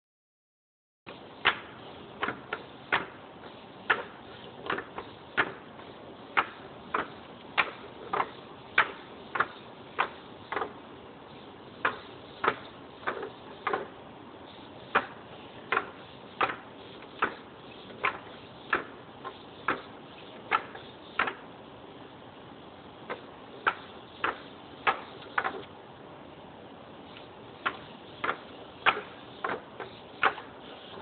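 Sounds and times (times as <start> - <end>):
faint steady hiss: 1.1 - 31.0.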